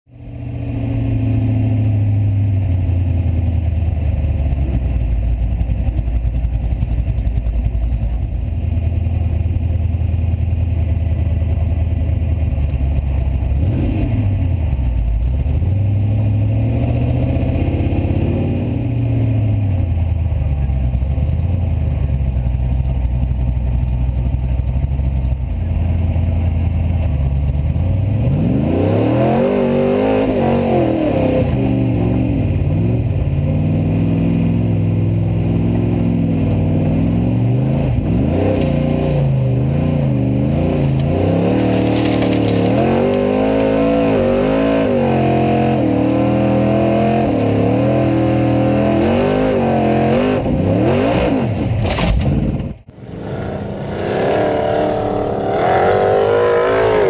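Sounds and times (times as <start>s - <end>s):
offroad car engine revving: 0.1s - 57.0s.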